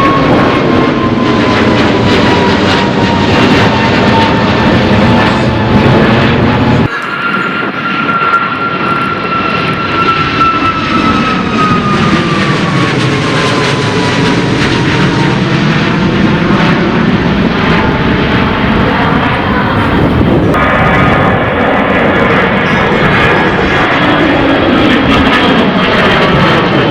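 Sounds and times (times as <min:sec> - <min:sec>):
jet engine whine falling in pitch: 0:00.0 - 0:26.9
jet engines at take-off power: 0:00.0 - 0:26.9.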